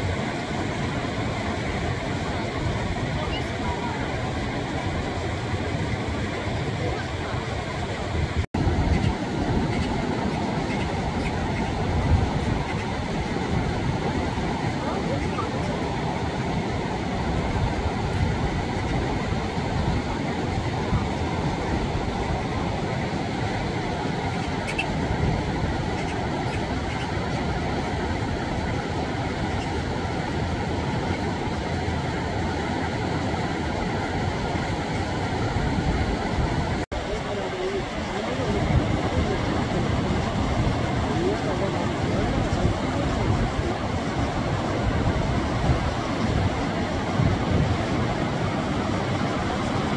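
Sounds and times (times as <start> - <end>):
stream rushing over boulders: 0.0 - 49.9.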